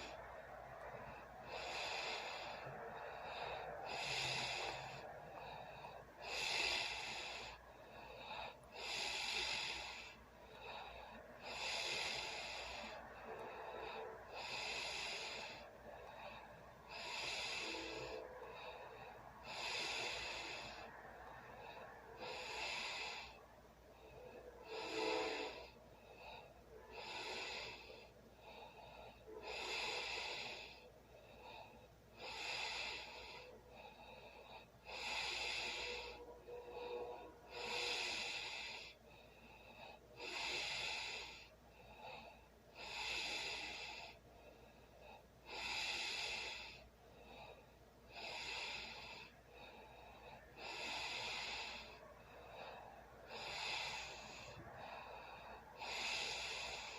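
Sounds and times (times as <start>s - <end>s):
sleeping person breathing loudly: 0.0s - 56.9s.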